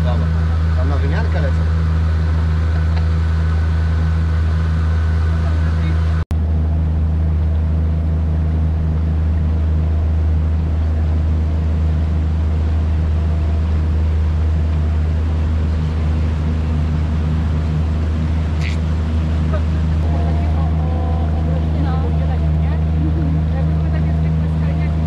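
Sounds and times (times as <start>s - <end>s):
boat motor droning: 0.0s - 25.0s
water rushing along hull: 0.0s - 25.0s.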